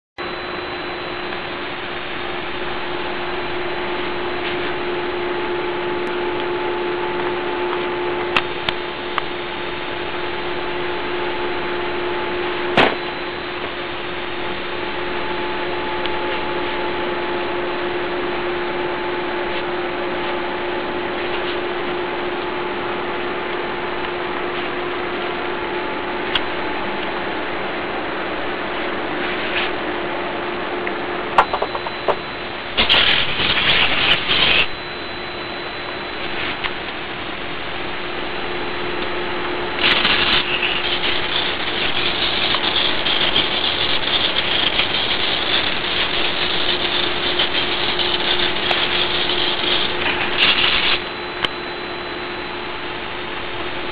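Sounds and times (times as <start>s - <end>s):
servos whirring hum: 0.2s - 53.9s.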